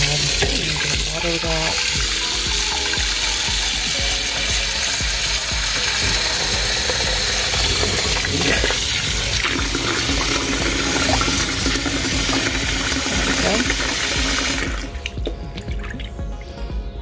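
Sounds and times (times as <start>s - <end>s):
water pouring into a bowl: 0.0s - 16.0s.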